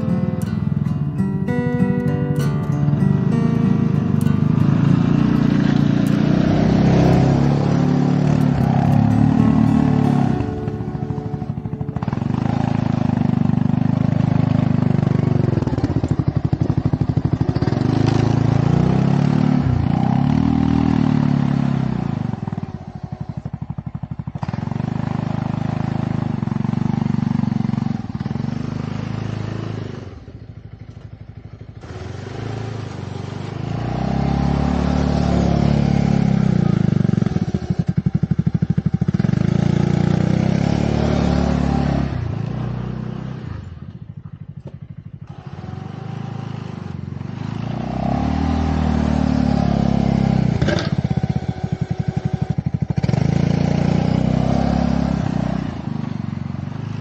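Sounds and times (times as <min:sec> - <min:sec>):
engine with pulsing note: 0:00.0 - 0:57.0.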